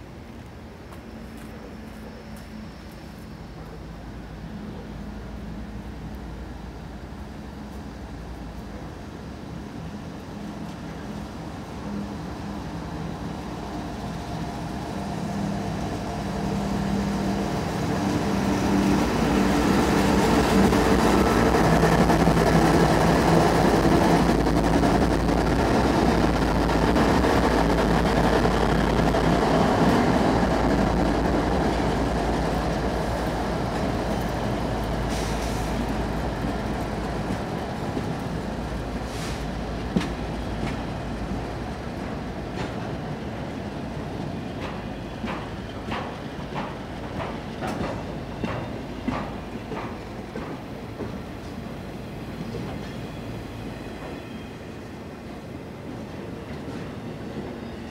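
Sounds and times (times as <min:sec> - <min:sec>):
diesel locomotive engine passing: 0:00.0 - 0:57.9
train cars rumbling and clattering: 0:00.0 - 0:57.9.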